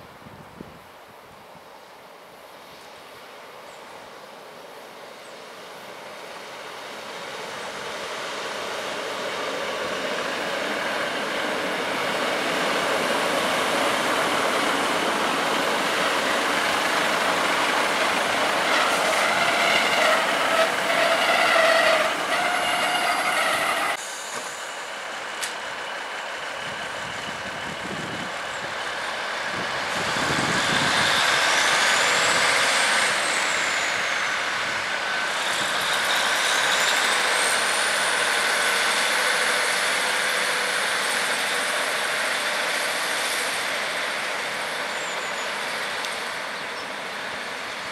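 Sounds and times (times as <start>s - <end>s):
train rolling past: 1.8s - 47.9s
train engine revving with whine: 6.4s - 47.9s.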